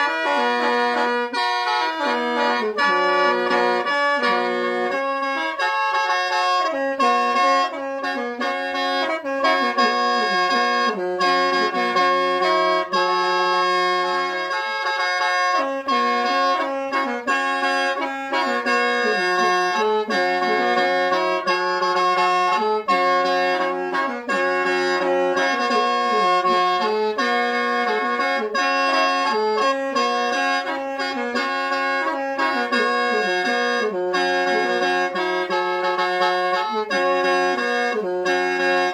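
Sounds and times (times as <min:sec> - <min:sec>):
bamboo mouth organ melody: 0:00.0 - 0:38.9.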